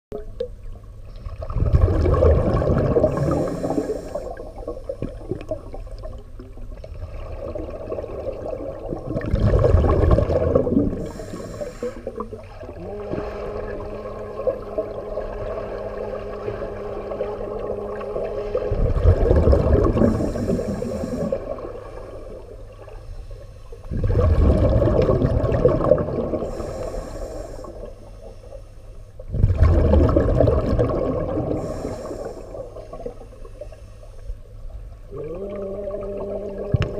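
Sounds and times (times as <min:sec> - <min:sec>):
low watery background: 0:00.1 - 0:36.9
steady low hum: 0:00.1 - 0:36.9
underwater bubbling exhalations: 0:01.2 - 0:23.0, 0:23.8 - 0:27.9, 0:29.2 - 0:33.7, 0:35.0 - 0:36.9.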